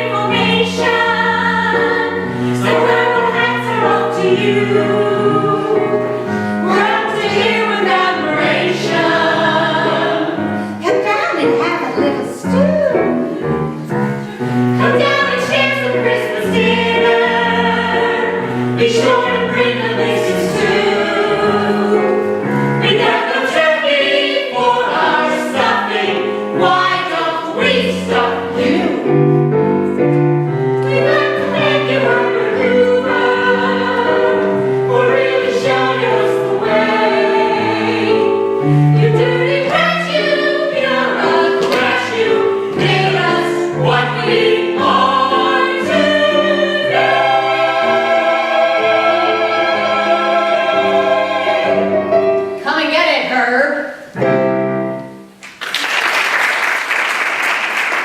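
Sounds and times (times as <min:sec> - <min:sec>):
chorus of voices singing: 0:00.0 - 0:10.9, 0:12.1 - 0:52.6
instrumental accompaniment: 0:00.0 - 0:52.7.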